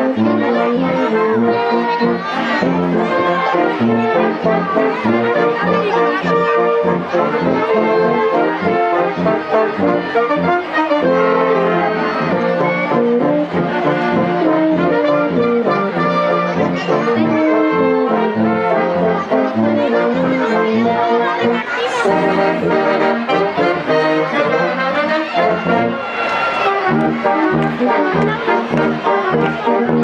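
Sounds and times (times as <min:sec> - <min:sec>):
wind band playing: 0:00.0 - 0:30.0.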